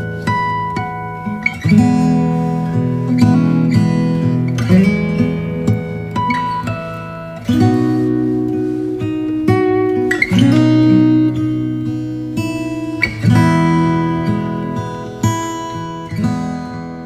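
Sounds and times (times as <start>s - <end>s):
strummed acoustic guitar chords: 0.0s - 17.0s.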